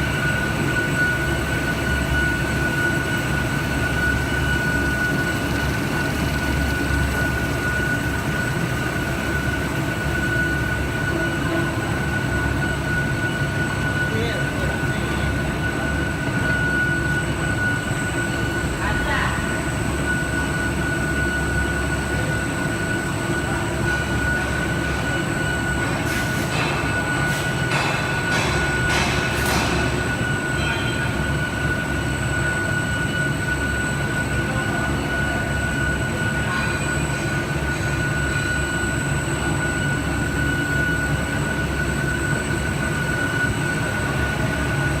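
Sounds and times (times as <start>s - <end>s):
machine mechanical drone: 0.0s - 45.0s.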